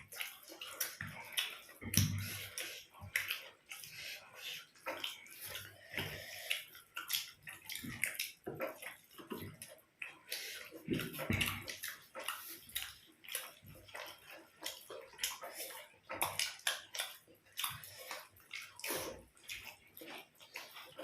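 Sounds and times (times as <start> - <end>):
wet chewing and mouth smacking: 0.0 - 21.0.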